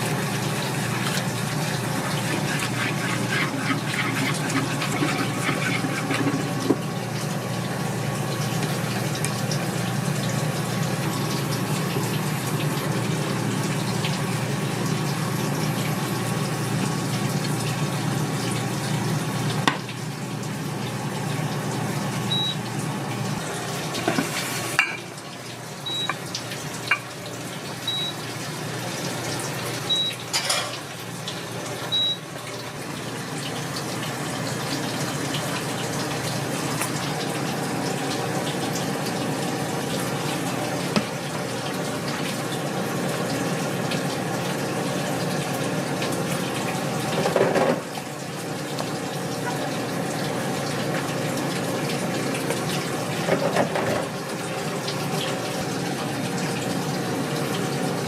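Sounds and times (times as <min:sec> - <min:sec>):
water running from tap: 0:00.0 - 0:58.0.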